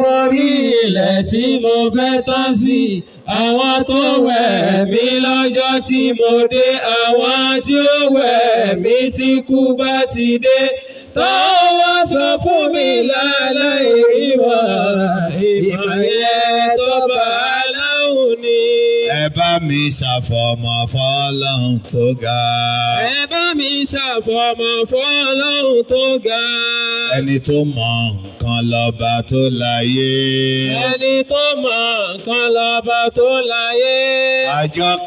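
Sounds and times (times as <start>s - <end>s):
lower male voice chanting: 0.0s - 35.0s
men chanting religious song: 0.0s - 35.0s.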